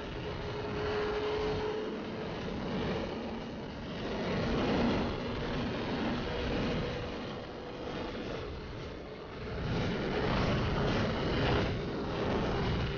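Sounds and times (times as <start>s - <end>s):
wind noise on microphone: 0.0s - 12.9s.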